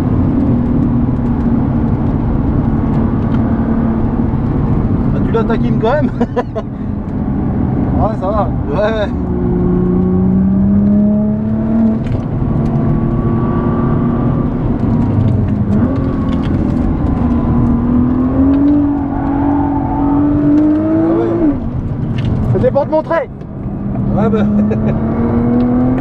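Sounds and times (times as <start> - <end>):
car engine heard from cabin: 0.0 - 26.0.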